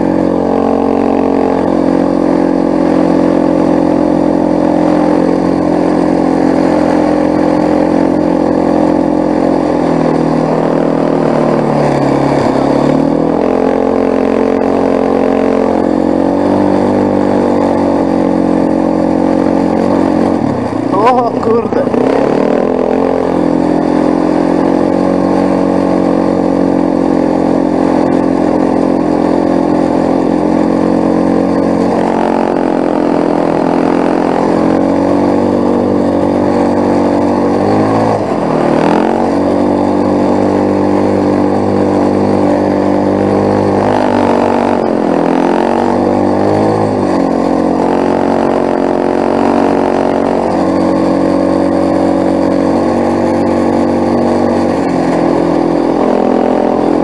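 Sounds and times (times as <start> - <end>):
atv engine running under load: 0.0 - 57.0.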